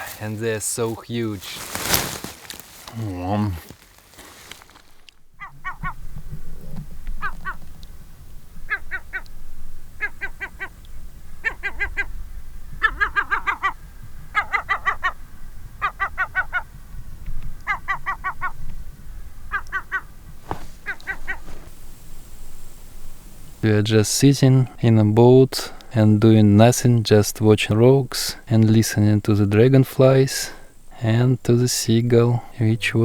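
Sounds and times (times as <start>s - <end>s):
gull alarm calling: 0.0s - 33.0s.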